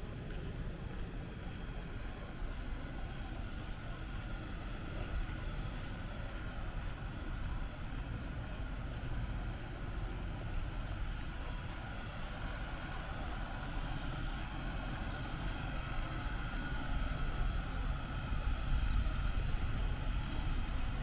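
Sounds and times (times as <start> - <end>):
low rumble of vehicle traffic: 0.0 - 21.0.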